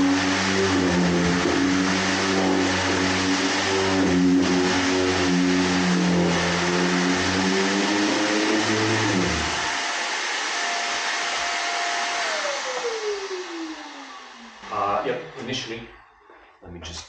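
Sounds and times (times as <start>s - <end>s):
electric sander on wood: 0.0s - 15.5s.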